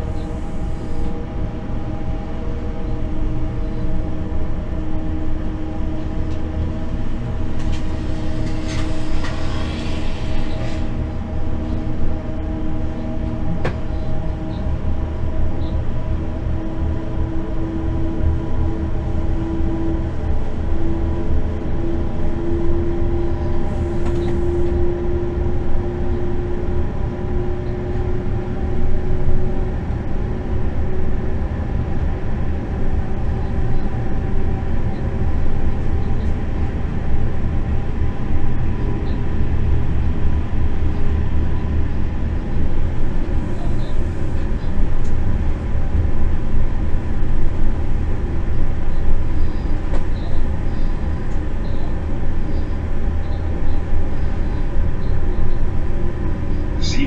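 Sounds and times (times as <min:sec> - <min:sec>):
traction drive whine: 0:00.0 - 0:57.0
wheels rumbling on track: 0:00.0 - 0:57.0.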